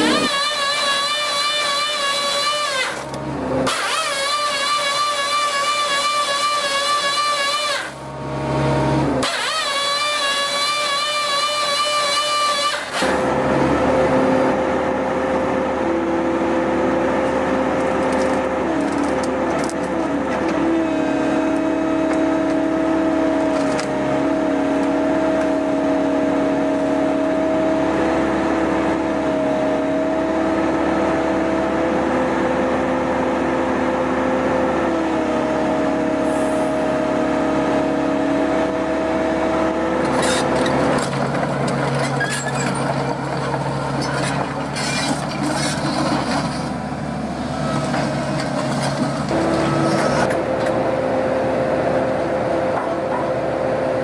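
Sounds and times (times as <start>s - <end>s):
hydraulic whine: 0.0s - 54.0s
rough diesel machine noise: 0.0s - 54.0s.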